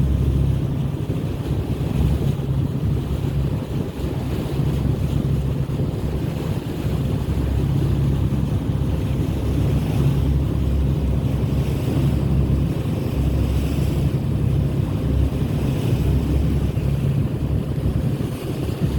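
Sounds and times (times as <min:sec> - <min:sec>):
boat engine droning: 0:00.0 - 0:18.9
wind buffeting microphone: 0:00.0 - 0:18.9.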